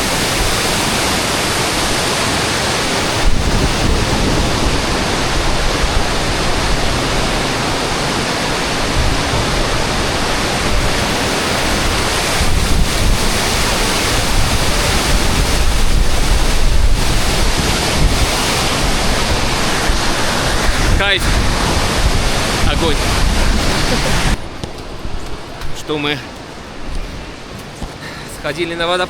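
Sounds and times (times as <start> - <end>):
waterfall rushing: 0.0 - 26.2.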